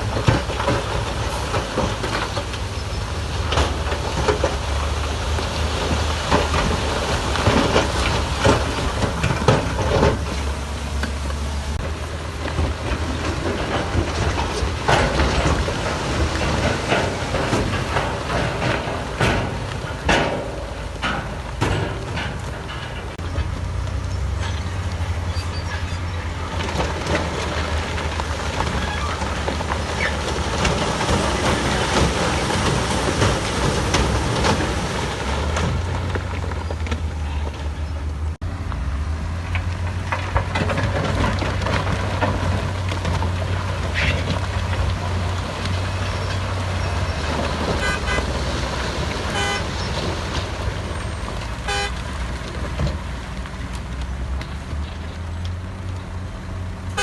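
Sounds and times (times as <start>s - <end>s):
machinery rattling and knocking: 0.0s - 38.4s, 39.0s - 56.2s
diesel engine drone: 0.0s - 57.0s.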